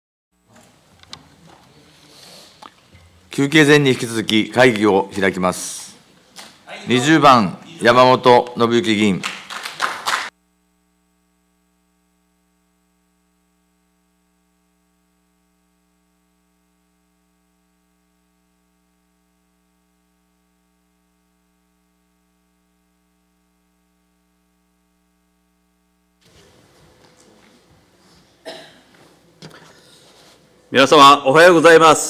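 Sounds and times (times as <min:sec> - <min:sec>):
faint electrical hum: 0:00.4 - 0:32.0.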